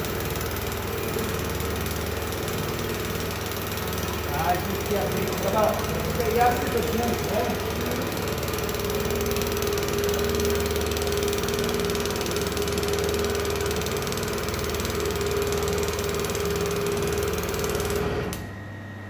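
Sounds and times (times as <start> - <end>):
welding arc buzzing: 0.0 - 18.4.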